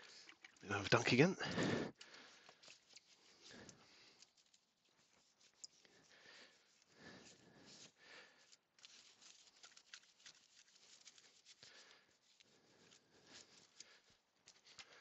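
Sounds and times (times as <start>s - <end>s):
brush scrubbing wet wheel: 2.5s - 15.0s.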